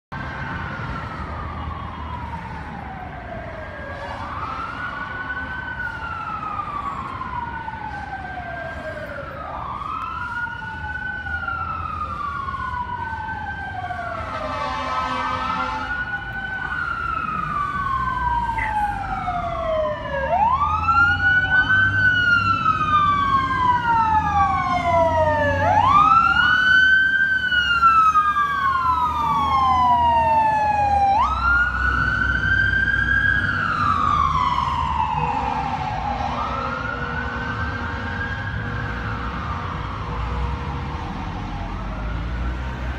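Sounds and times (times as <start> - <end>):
fire engine wail siren: 0.1 - 42.9
rumble of engines and traffic: 0.1 - 42.9.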